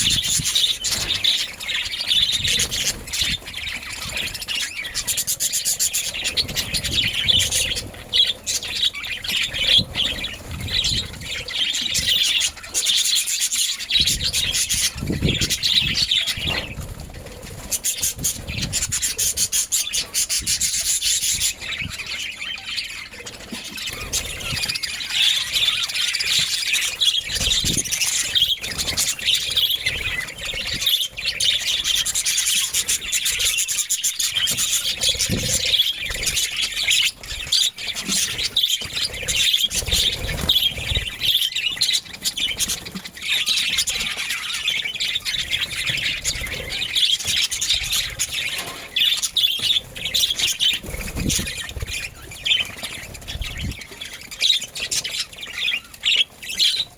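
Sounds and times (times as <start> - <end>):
budgerigars chattering: 0.0 - 16.8, 17.6 - 56.9.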